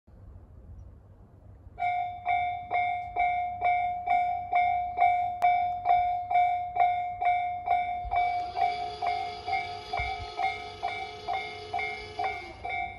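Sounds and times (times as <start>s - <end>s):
level crossing warning bell: 1.8s - 12.9s.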